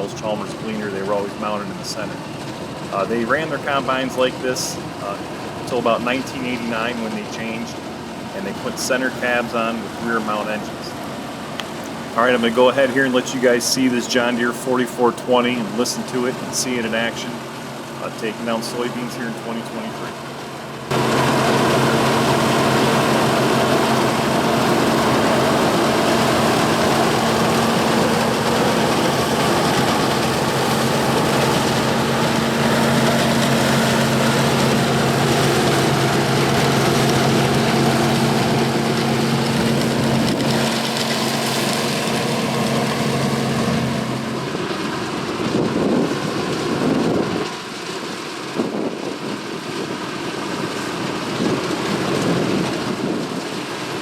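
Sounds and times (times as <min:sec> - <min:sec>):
combine harvester diesel engine running: 0:00.0 - 0:54.0.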